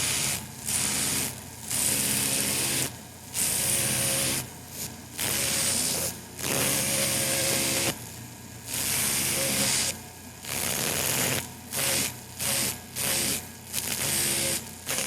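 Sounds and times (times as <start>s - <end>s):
dentist's drill whining: 0.0s - 4.4s, 5.2s - 8.0s, 8.7s - 15.0s.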